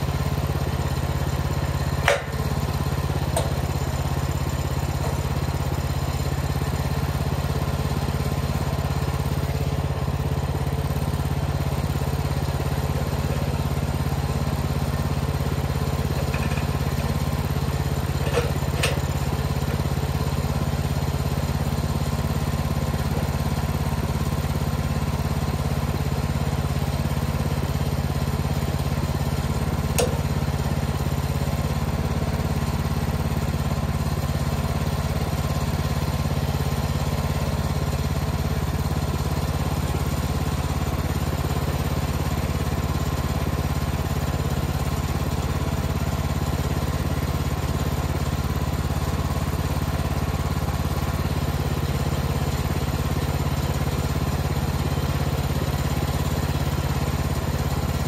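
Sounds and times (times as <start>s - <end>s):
gas engine idling: 0.0s - 58.0s.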